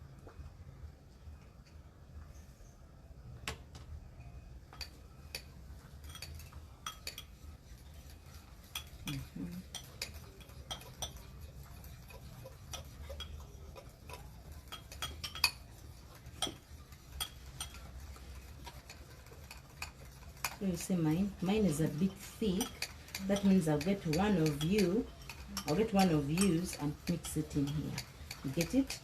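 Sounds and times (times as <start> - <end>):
cutlery clinking against bowls: 4.7 - 29.0.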